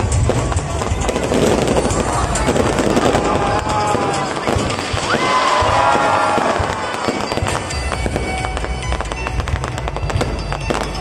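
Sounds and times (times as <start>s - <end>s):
fireworks crackling and popping: 0.0s - 11.0s
firework whistling: 0.9s - 11.0s.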